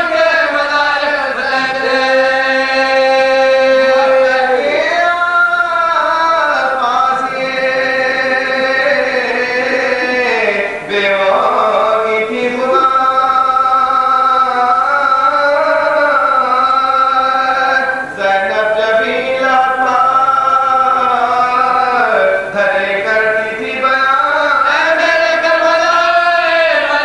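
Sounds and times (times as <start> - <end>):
man chanting unaccompanied: 0.0 - 27.0.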